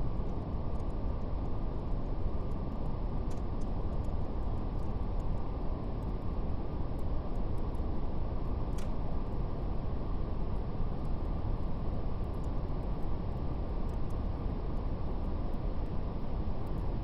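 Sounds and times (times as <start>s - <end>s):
faint fireplace crackle: 0.1s - 17.0s.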